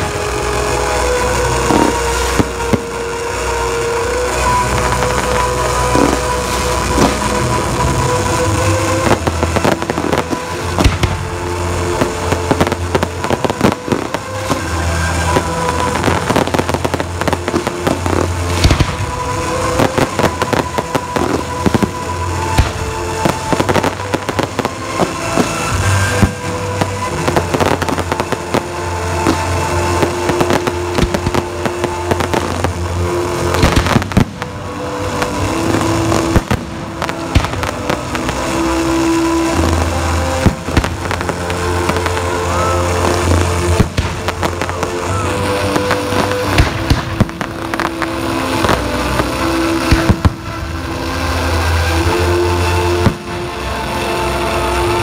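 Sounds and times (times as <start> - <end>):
fireworks bangs: 0.0 - 55.0
fireworks crackling: 0.0 - 55.0
music with low bass: 0.0 - 55.0.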